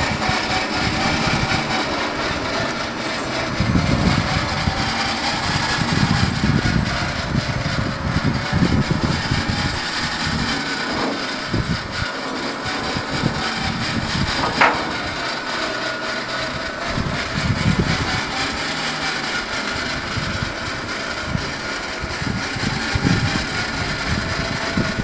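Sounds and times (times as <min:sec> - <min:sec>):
hydraulic hoist whine: 0:00.0 - 0:25.0
truck engine running: 0:00.0 - 0:25.0.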